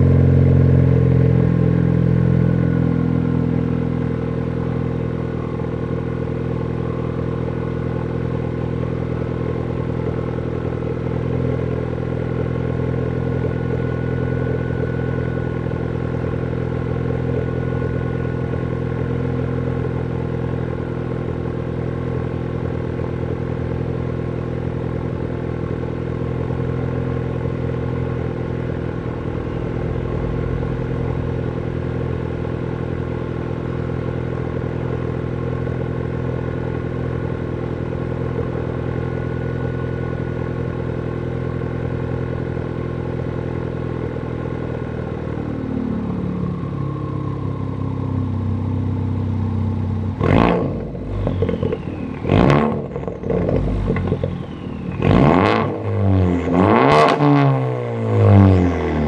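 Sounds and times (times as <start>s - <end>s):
car exhaust drone idling: 0.0s - 59.0s.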